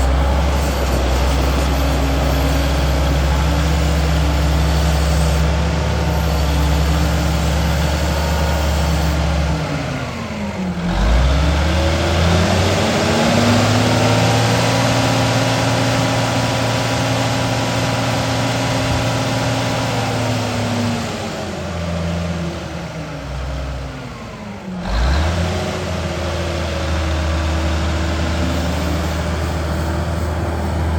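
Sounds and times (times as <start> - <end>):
tractor diesel engine revving: 0.0 - 30.9.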